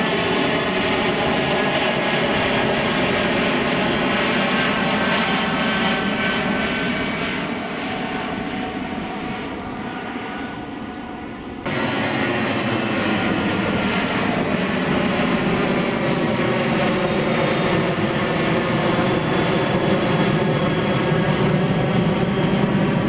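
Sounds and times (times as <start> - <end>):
jet airliner engines roaring: 0.0 - 23.0.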